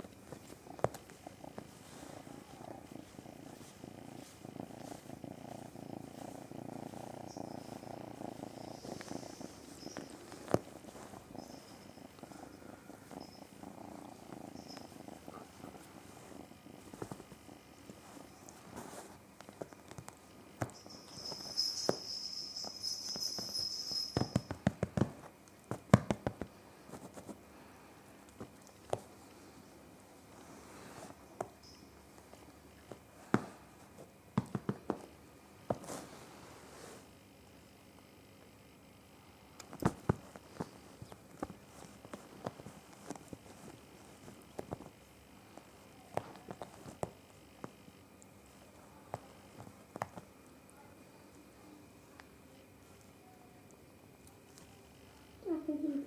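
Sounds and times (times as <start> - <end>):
kitten purring: 0.0 - 38.0, 39.1 - 56.0.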